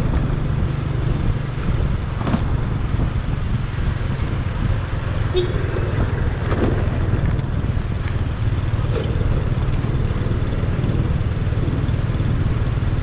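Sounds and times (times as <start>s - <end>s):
motorcycle engine rumble: 0.0s - 13.0s
road noise: 0.0s - 13.0s.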